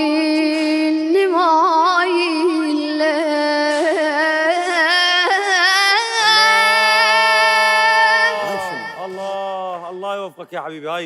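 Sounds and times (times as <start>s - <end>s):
boy singing a lament: 0.0s - 9.4s.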